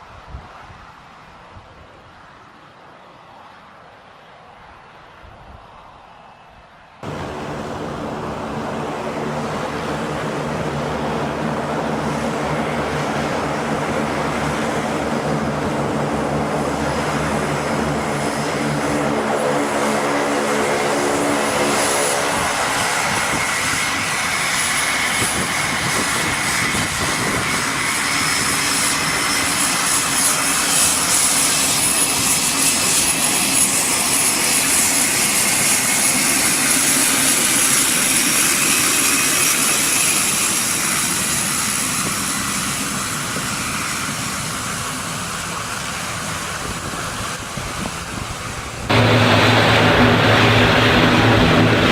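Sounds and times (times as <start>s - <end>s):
jet roar with high whine: 0.0s - 51.9s
aircraft engine drone: 7.0s - 51.9s.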